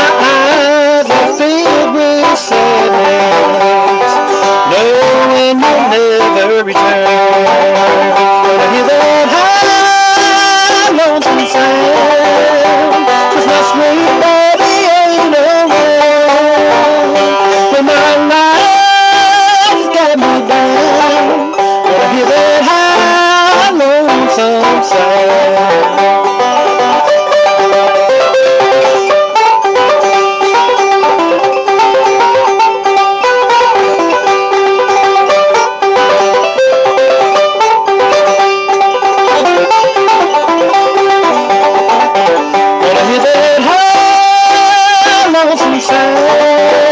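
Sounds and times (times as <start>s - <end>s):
guitar: 0.0s - 46.9s
rapid banjo picking: 0.0s - 46.9s.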